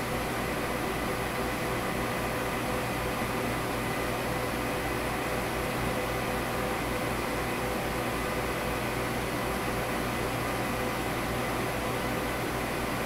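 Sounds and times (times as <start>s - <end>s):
server fans and drives whirring: 0.0s - 13.0s.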